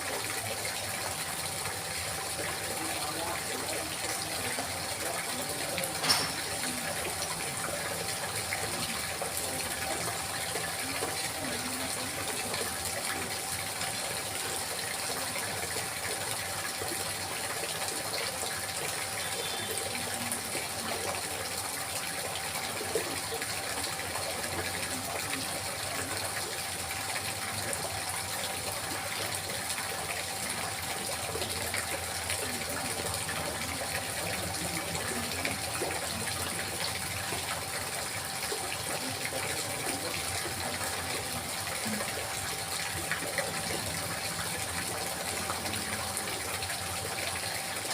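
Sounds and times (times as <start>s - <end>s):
water babbling and trickling: 0.0s - 47.9s.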